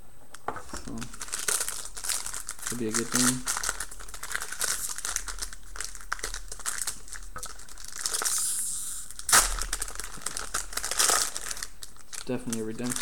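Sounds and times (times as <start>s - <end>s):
plastic wrapper crinkling: 0.6s - 13.0s.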